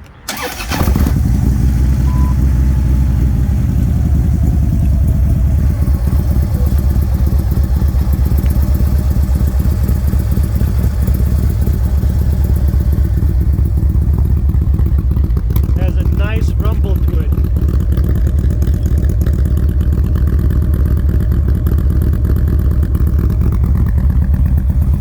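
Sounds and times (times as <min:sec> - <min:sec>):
motorcycle engine idling: 0:00.3 - 0:25.0.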